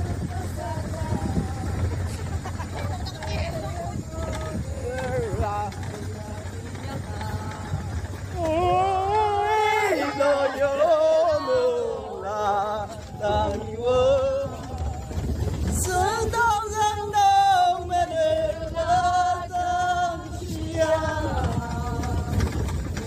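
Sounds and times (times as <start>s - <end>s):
male and female voices singing: 0.0s - 23.0s.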